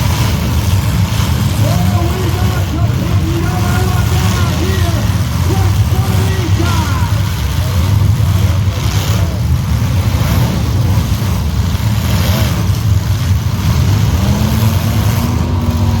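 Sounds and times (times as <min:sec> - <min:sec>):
car engines running rough: 0:00.0 - 0:16.0
engine revving: 0:00.0 - 0:16.0.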